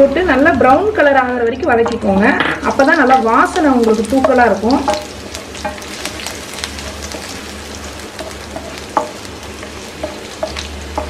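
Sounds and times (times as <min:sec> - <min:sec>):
garlic sizzling in hot oil: 0:00.0 - 0:11.0
spatula stirring and ticking: 0:01.7 - 0:11.0.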